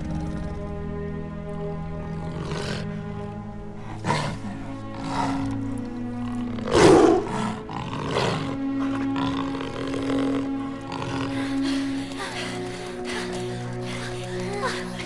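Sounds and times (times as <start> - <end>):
film score of held tones: 0.0 - 15.0
roars: 2.1 - 3.0, 3.8 - 15.0.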